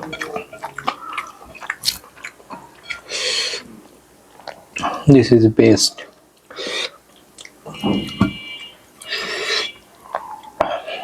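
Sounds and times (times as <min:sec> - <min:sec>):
person chewing food: 0:00.0 - 0:05.1, 0:05.9 - 0:11.0.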